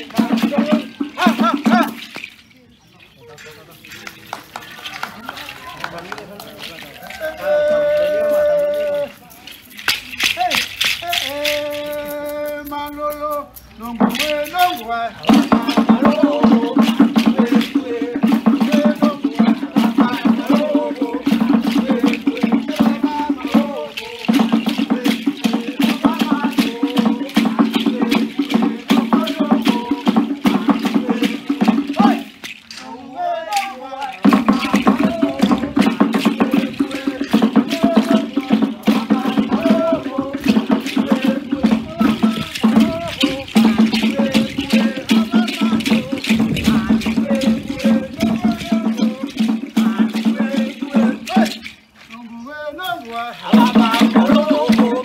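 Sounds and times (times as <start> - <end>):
ankle rattles shaking: 0.0 - 55.0
voices chanting: 0.0 - 55.0.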